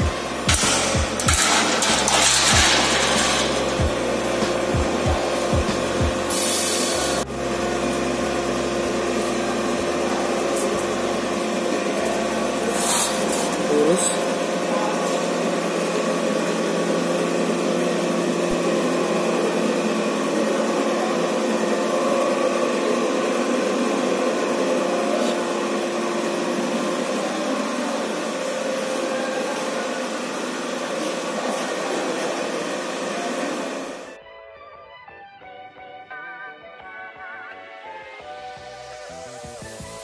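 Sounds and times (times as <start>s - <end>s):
hydraulic pump motor humming: 0.0s - 34.1s.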